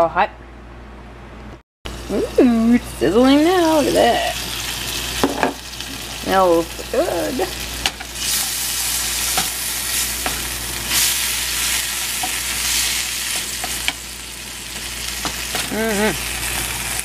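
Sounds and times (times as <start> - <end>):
peppers sizzling in butter: 1.9 - 17.0.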